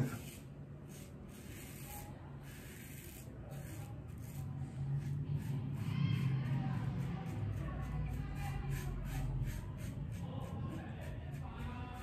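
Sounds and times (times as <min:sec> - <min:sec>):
razor scraping stubble: 0:00.0 - 0:12.0.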